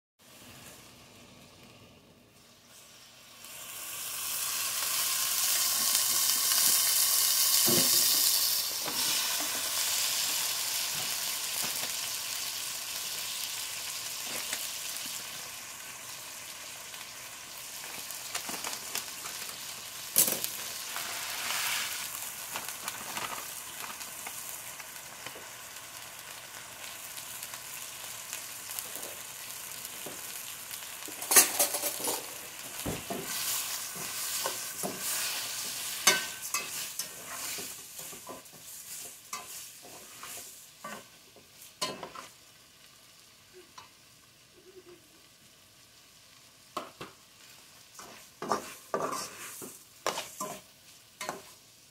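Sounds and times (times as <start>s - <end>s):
hot oil sizzling: 0.2s - 51.9s.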